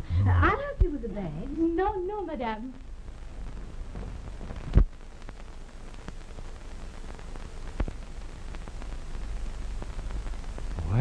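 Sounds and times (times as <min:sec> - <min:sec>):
film soundtrack hiss and crackle: 0:00.0 - 0:11.0.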